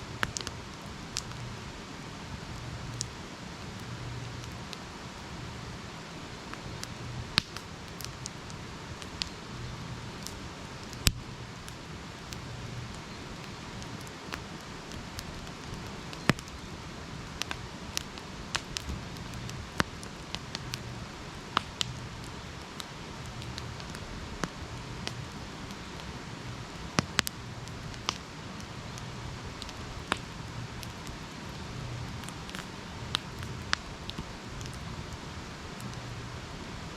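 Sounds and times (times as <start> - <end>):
campfire crackling and popping: 0.0 - 36.9.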